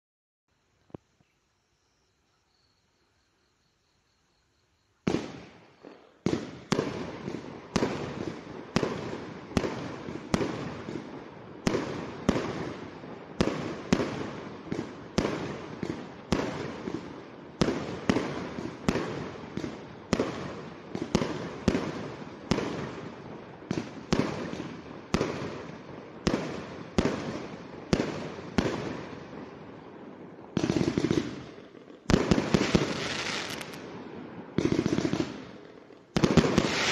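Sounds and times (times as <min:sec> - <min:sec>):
fireworks bangs: 0:05.0 - 0:36.9.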